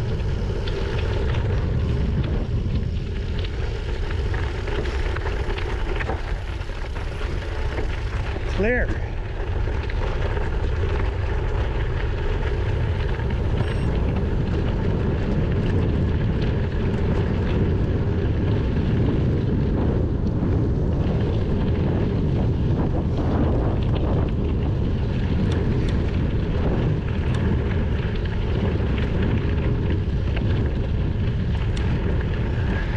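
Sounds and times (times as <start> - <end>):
tyre rolling noise: 0.0 - 32.9
wind rumble on microphone: 0.0 - 32.9.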